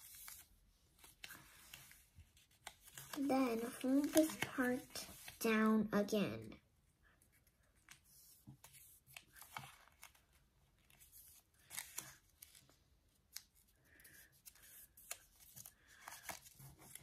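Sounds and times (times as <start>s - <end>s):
paper being folded: 0.0s - 5.5s, 7.2s - 17.0s.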